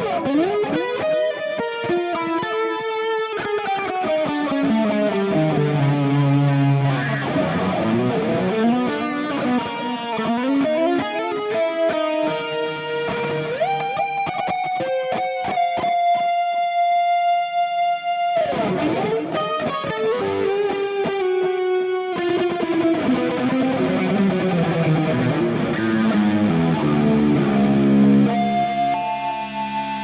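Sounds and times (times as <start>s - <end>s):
electric guitar playing: 0.0s - 30.0s.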